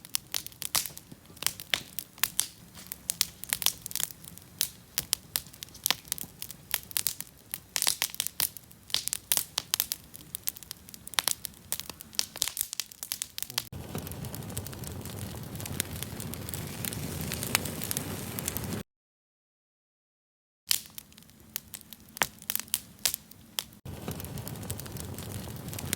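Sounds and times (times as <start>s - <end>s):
campfire crackling and popping: 0.0s - 18.8s, 20.7s - 25.9s.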